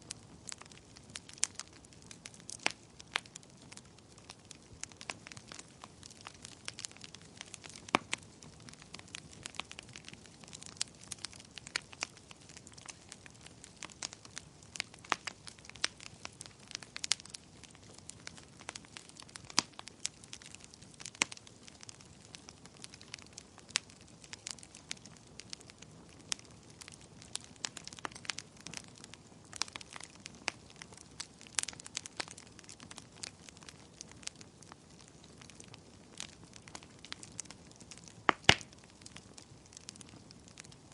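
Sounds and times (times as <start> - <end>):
soft fire hiss: 0.0 - 40.9
wood fire crackling and popping: 0.0 - 40.9.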